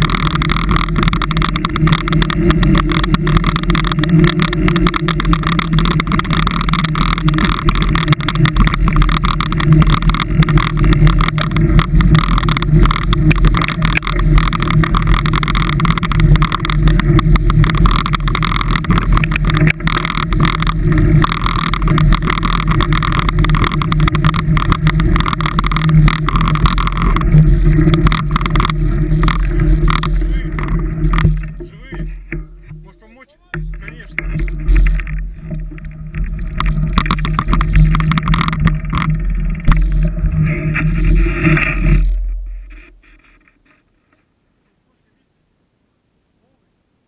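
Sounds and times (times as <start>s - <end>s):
vehicle engine running: 0.0s - 44.1s
road and wind noise: 0.0s - 44.2s.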